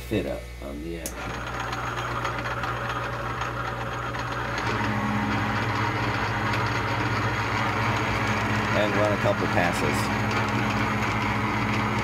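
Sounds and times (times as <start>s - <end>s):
lathe motor humming: 1.1s - 12.0s.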